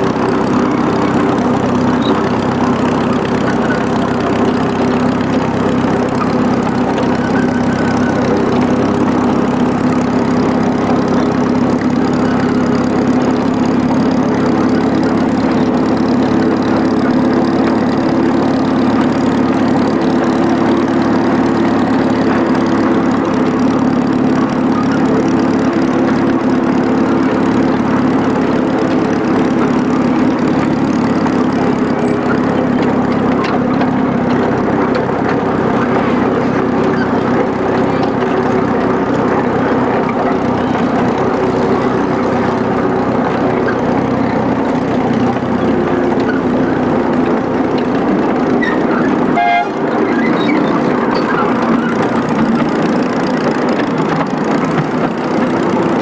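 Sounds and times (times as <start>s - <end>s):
locomotive engine droning: 0.0s - 56.0s.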